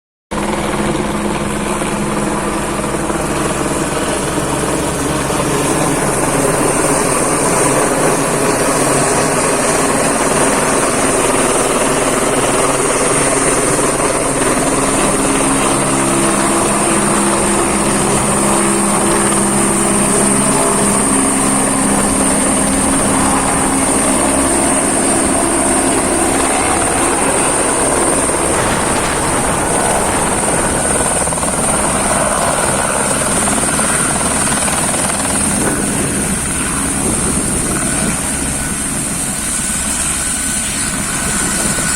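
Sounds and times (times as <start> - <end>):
helicopter rotor and engine: 0.3 - 41.9
high-pitched whine: 4.6 - 41.9.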